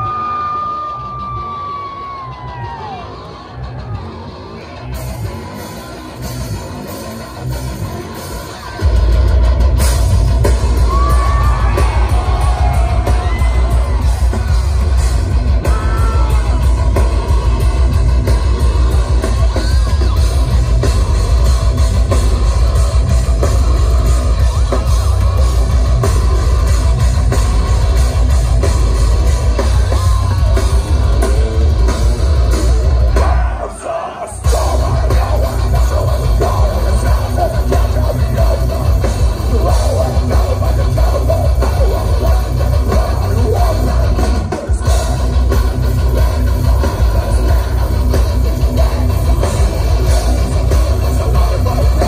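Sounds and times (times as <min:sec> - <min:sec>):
live heavy metal band playing: 0:00.0 - 0:52.0.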